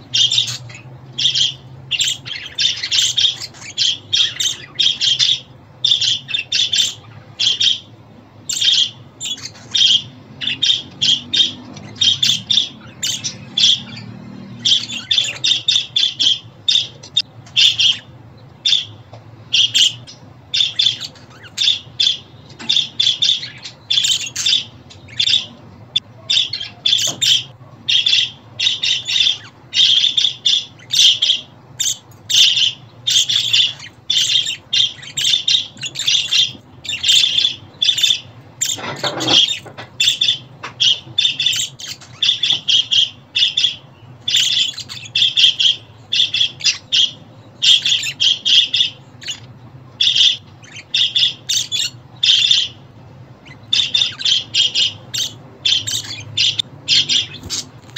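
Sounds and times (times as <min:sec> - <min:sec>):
budgerigars chattering: 0:00.0 - 0:57.9.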